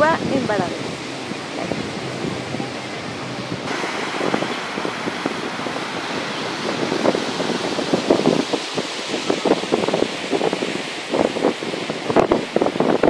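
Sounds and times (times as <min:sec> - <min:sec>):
surf washing onto sandy beach: 0:00.0 - 0:13.0
wind on microphone: 0:00.0 - 0:13.0.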